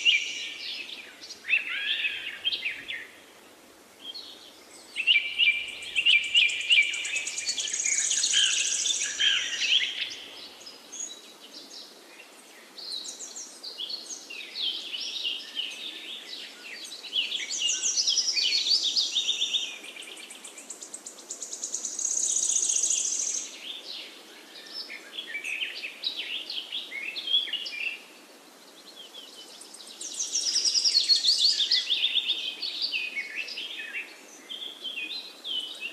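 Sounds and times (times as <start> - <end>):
faint background hiss: 0.0 - 35.9
songbirds trilling and chirping: 0.0 - 35.9.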